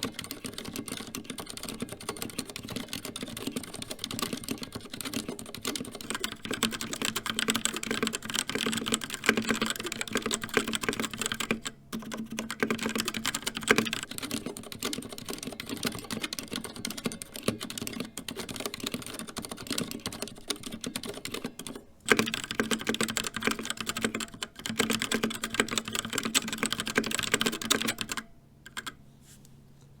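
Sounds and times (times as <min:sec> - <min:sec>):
mechanical keyboard typing: 0:00.0 - 0:29.0.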